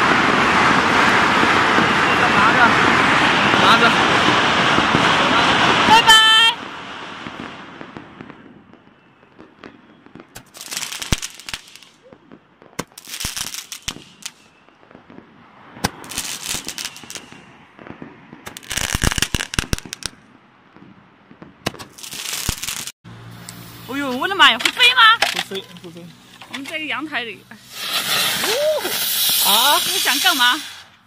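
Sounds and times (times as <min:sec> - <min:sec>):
fireworks cracking: 0:00.0 - 0:31.0.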